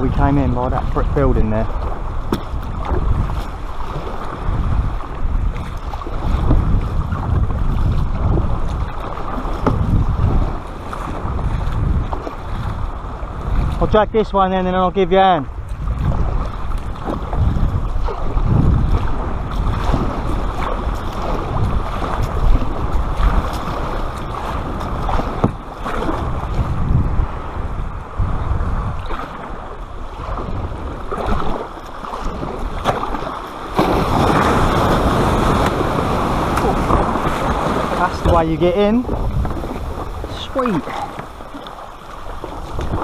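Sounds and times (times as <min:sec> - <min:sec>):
paddle strokes splashing: 0:00.0 - 0:14.0, 0:15.0 - 0:43.0
surf washing: 0:00.0 - 0:43.0
wind buffeting microphone: 0:00.0 - 0:43.0.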